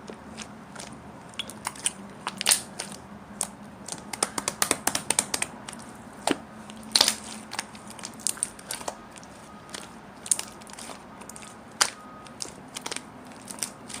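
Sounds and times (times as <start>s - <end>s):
slime clicking and popping: 0.4s - 14.0s.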